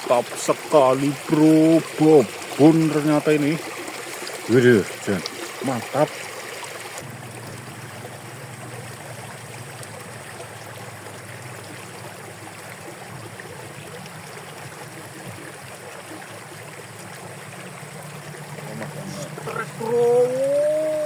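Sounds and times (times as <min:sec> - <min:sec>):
water rushing along a ditch: 0:00.0 - 0:21.0.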